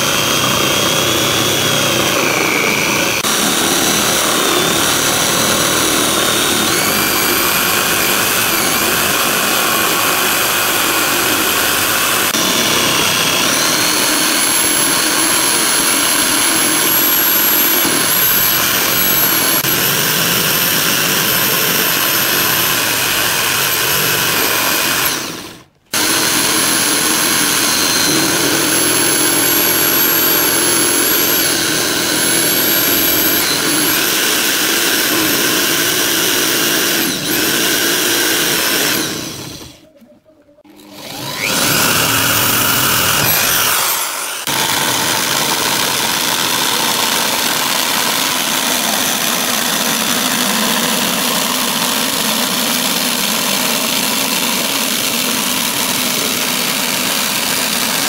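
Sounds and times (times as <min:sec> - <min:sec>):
electric drill boring into wood: 0:00.0 - 0:39.8, 0:40.7 - 0:58.0.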